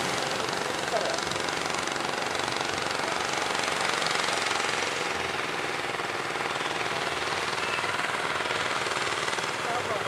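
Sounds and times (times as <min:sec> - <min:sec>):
boat engine pulsing: 0:00.0 - 0:10.0
wind: 0:00.0 - 0:10.0.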